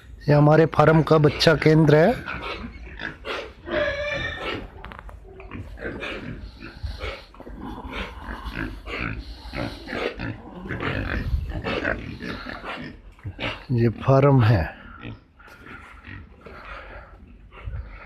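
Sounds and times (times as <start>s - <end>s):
piglets squealing and grunting: 0.9s - 18.0s.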